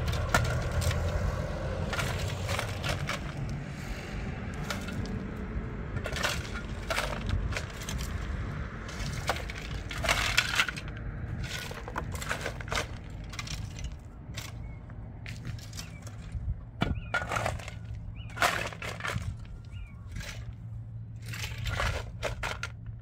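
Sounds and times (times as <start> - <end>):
rocks clattering into wheelbarrow: 0.0 - 20.6, 21.2 - 23.0
low rumble: 0.0 - 23.0
shovels scraping stony dirt: 0.0 - 23.0.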